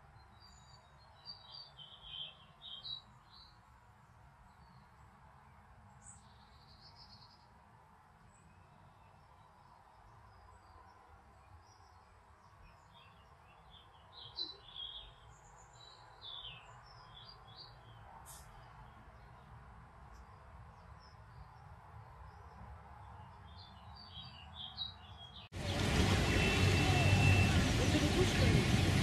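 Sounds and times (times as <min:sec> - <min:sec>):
faint songbird chirping: 0:00.0 - 0:27.5.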